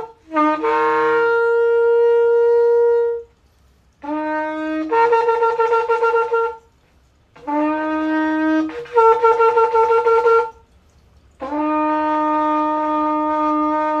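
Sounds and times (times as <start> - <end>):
horn shofar blasts: 0.0 - 3.4, 4.0 - 6.8, 7.4 - 10.6, 11.3 - 14.0.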